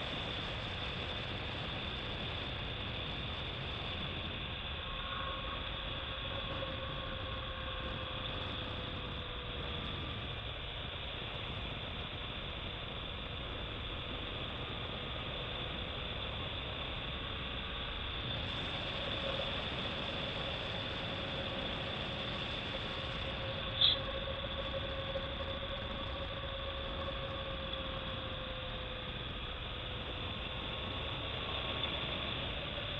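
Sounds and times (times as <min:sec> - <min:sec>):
wind rush over microphone: 0:00.0 - 0:32.9.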